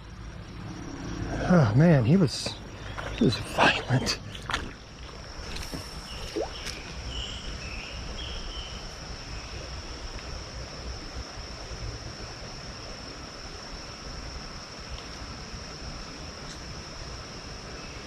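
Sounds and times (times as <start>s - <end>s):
insect trill: 0.0s - 18.0s
creek water running: 1.5s - 17.6s.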